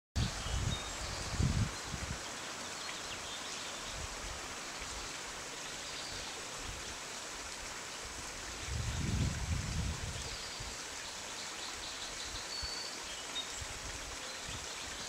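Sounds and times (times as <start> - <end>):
stream rushing over stones: 0.2 - 15.0.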